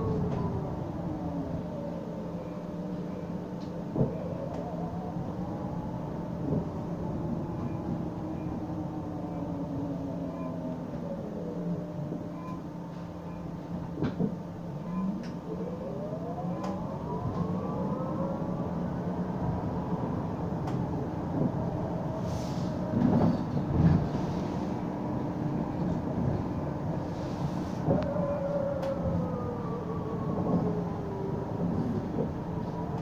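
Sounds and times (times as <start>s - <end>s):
bus drivetrain whine: 0.0s - 33.0s.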